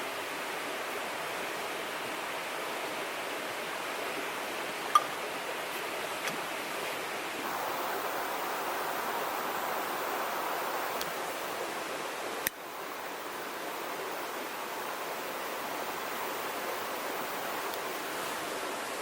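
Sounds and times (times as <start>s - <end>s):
river flowing: 0.0s - 19.0s.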